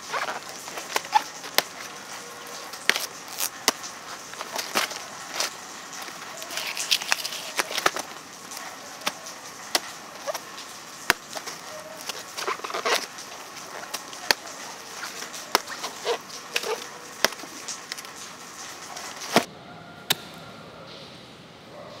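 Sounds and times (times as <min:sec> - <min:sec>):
plant fibres tearing: 0:00.0 - 0:19.5.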